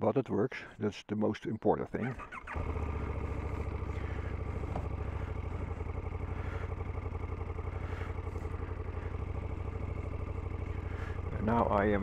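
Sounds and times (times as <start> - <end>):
motorcycle engine idling: 2.1 - 12.0.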